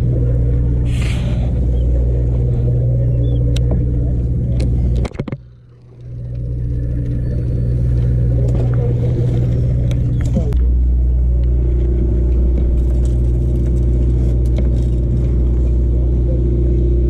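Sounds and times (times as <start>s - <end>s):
boat engines droning: 0.0s - 17.0s.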